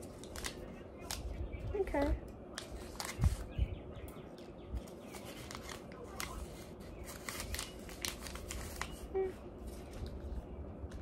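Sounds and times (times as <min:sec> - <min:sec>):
packaging crinkles and rustles: 0:00.0 - 0:03.6, 0:04.4 - 0:11.0.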